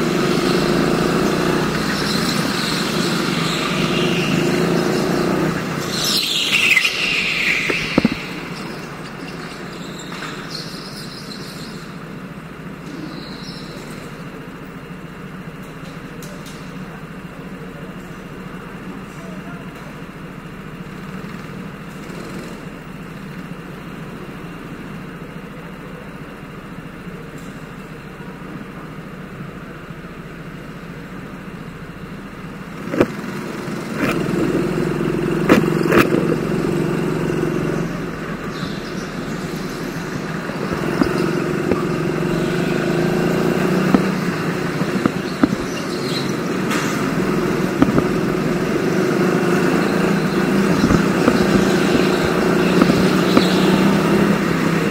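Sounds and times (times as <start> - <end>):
go-karts humming: 0.0 - 54.9.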